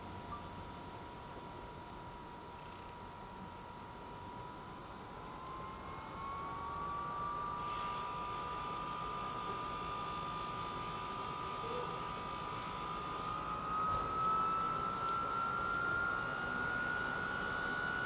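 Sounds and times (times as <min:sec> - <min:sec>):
electric fan whine: 0:00.0 - 0:18.0.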